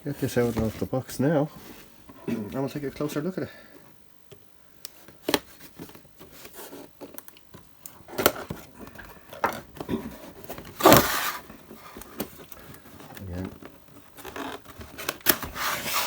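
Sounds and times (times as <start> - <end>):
cardboard and plastic packaging rustling: 0.0 - 4.0, 4.9 - 16.0.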